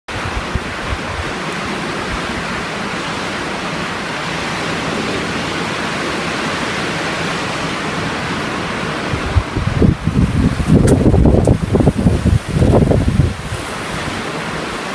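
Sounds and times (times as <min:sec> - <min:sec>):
strong blizzard wind blowing: 0:00.1 - 0:14.9.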